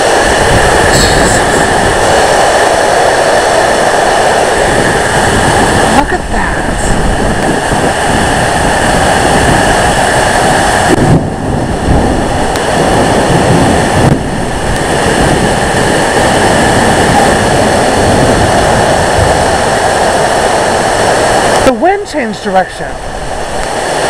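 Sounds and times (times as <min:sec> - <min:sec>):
heavy rain pouring: 0:00.0 - 0:24.0
wind buffeting microphone: 0:00.0 - 0:24.0.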